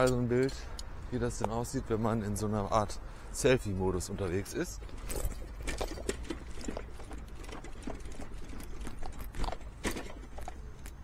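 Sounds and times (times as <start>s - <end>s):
bicycle riding rumble: 1.9s - 11.0s.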